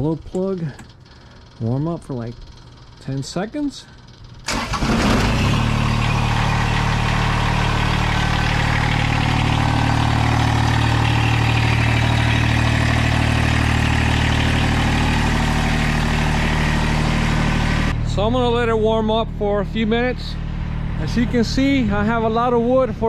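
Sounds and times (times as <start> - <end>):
diesel engine cranking and idling: 3.9 - 23.0.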